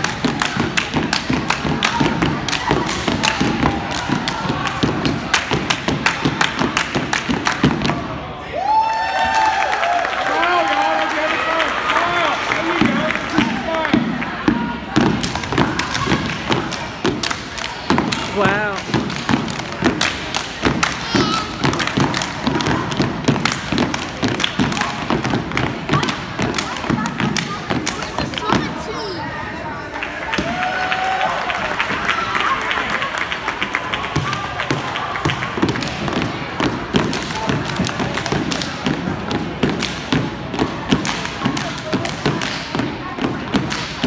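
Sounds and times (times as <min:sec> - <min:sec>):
hands clapping: 0:00.0 - 0:08.0, 0:15.1 - 0:28.8, 0:30.0 - 0:44.0
crowd chatter: 0:00.0 - 0:08.8, 0:10.3 - 0:44.0.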